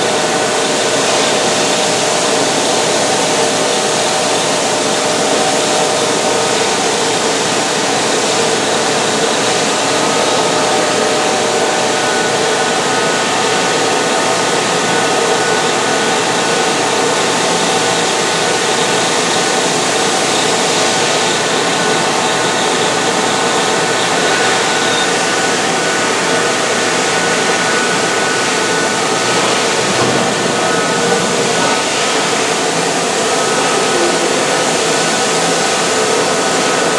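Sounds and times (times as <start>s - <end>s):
machining center milling metal: 0.0s - 36.9s.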